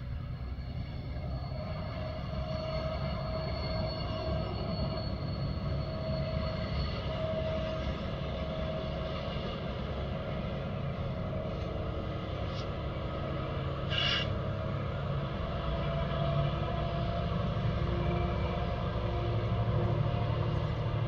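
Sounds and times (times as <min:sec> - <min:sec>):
distant locomotive drone: 0:00.0 - 0:21.0.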